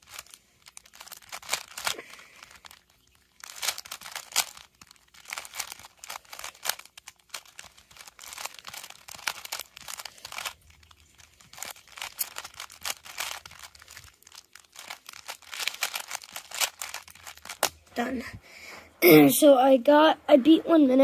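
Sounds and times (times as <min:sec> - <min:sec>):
puzzle cube clicking: 0:00.1 - 0:02.8, 0:03.4 - 0:17.8.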